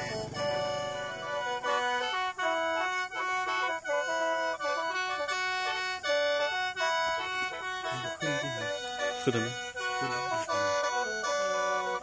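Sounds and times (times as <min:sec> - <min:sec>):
mouth organ melody: 0:00.0 - 0:12.0.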